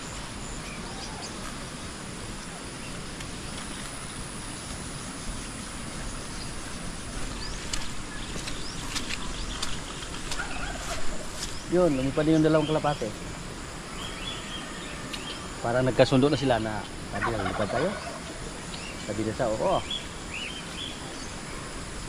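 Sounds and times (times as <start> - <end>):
outdoor ambient noise: 0.0 - 22.0.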